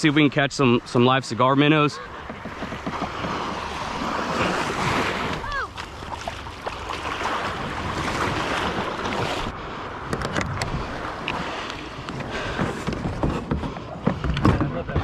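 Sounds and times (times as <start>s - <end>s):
water rushing around a kayak: 0.0s - 15.0s
wind on microphone: 2.0s - 15.0s.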